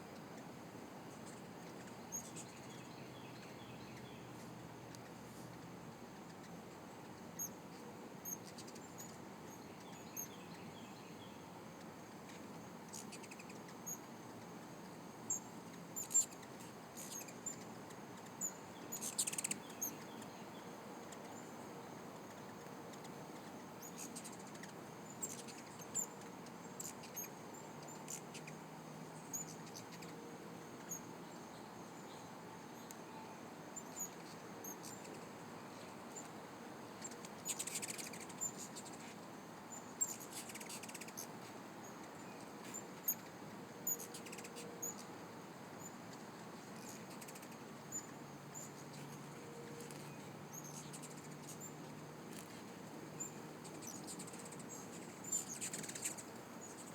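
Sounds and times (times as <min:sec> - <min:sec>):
hummingbirds chirping: 0:01.2 - 0:05.6, 0:07.4 - 0:11.5, 0:12.2 - 0:14.1, 0:15.2 - 0:36.3, 0:37.0 - 0:45.1, 0:45.7 - 0:56.9.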